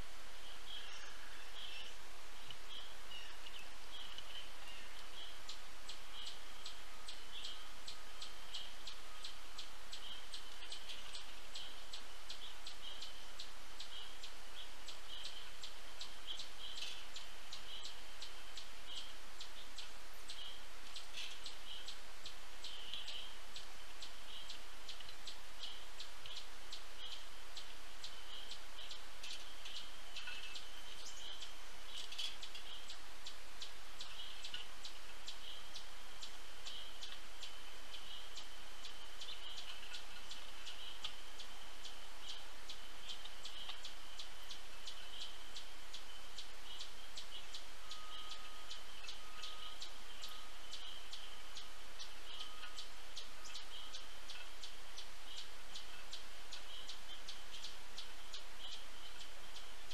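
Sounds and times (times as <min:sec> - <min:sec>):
bright bird chirps: 0:00.4 - 0:59.9.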